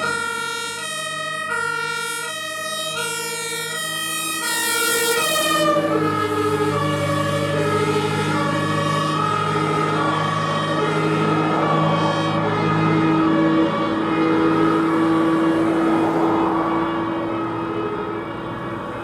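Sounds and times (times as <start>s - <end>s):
fire engine two-tone horn: 0.0s - 19.0s
truck engine rumble: 0.0s - 19.0s.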